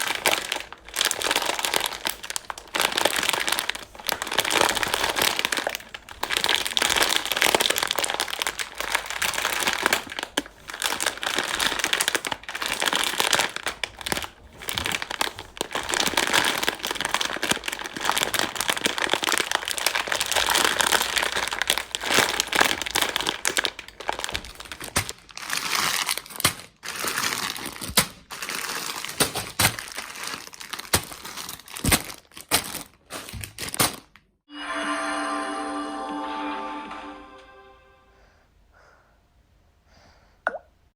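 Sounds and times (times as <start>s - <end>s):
plastic sweet packets crinkling: 0.0s - 34.3s.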